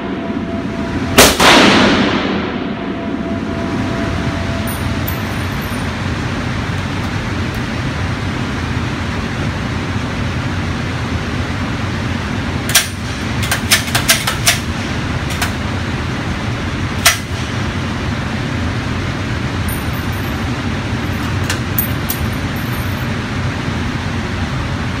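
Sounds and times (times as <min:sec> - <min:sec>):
low rumble of shooting range: 0:00.0 - 0:25.0.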